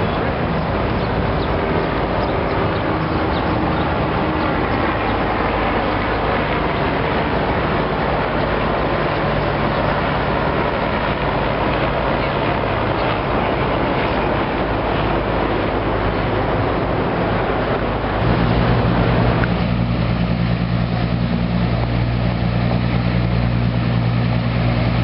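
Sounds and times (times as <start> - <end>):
low hum: 0.0 - 25.0
outdoor background noise: 0.0 - 25.0.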